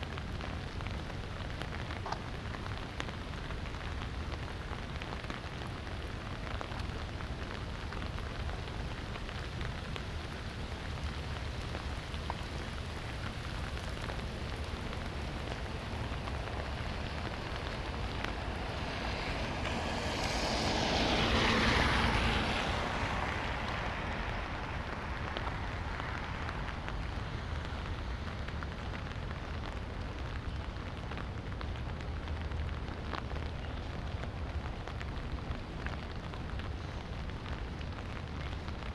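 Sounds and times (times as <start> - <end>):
car tyres hissing on wet street: 0.0 - 38.9
light rain falling: 0.0 - 38.9.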